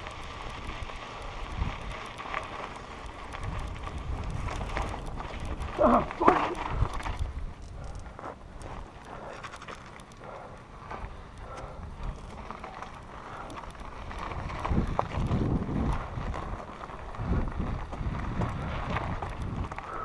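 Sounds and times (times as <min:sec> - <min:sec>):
bike rattling over stones: 0:00.0 - 0:20.0
tyres crunching on gravel: 0:00.0 - 0:20.0.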